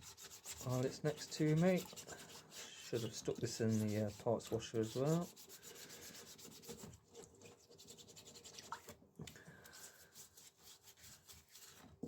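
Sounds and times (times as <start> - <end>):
scrubbing strokes: 0.0 - 9.0, 9.7 - 11.8.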